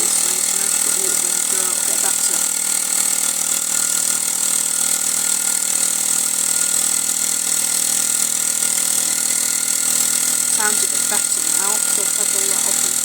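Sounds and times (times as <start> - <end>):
toy steam engine running: 0.0 - 13.0.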